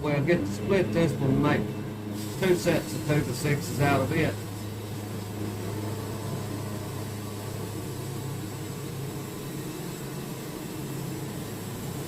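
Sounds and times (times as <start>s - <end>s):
sawmill engine humming: 0.0s - 12.0s.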